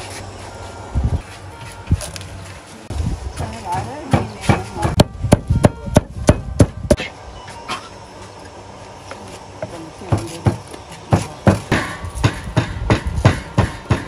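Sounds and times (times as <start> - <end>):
heavy food preparation strikes: 1.3 - 14.0.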